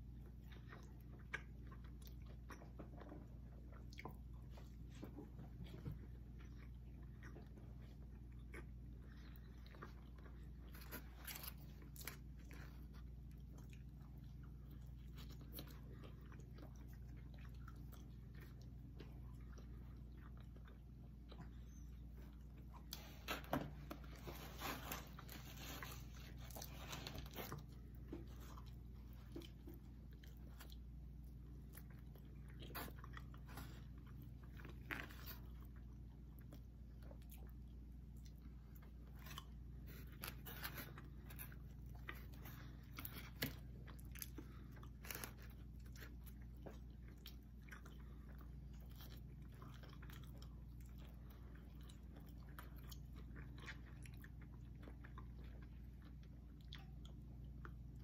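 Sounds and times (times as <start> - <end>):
chewing pizza: 0.0 - 58.0
faint steady hum: 0.0 - 58.0.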